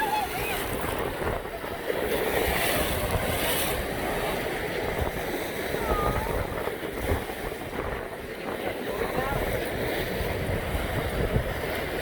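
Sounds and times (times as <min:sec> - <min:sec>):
ocean waves breaking: 0:00.0 - 0:12.0
wind noise on microphone: 0:00.0 - 0:12.0.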